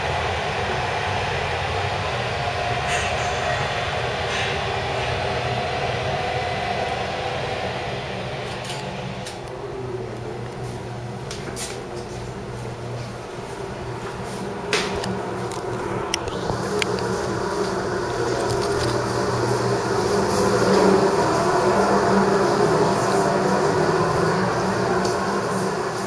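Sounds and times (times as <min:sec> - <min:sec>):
ventilation fans humming: 0:00.0 - 0:26.0.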